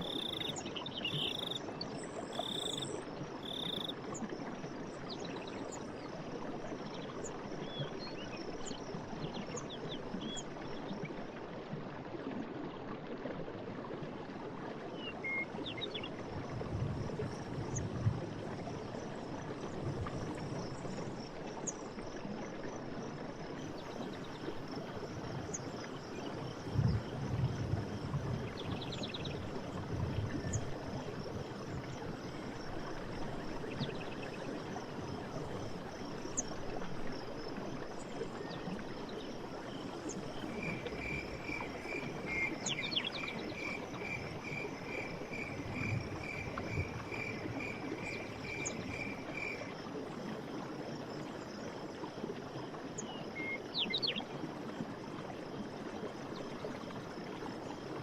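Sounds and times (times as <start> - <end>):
stream of running water: 0.0 - 58.0
water gurgling: 0.0 - 58.0.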